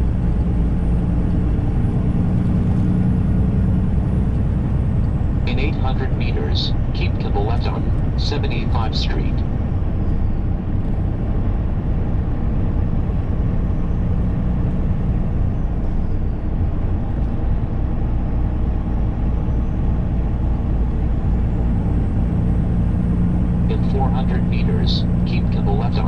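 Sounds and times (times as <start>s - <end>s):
low hum: 0.0s - 26.0s
truck engine and road noise: 0.0s - 26.0s.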